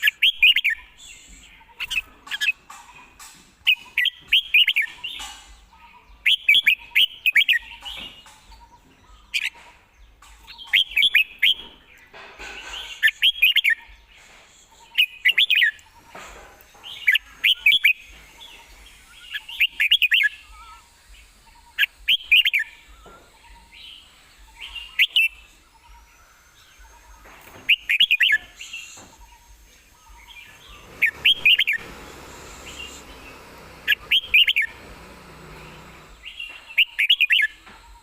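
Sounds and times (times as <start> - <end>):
bird singing bright notes: 0.0 - 38.0.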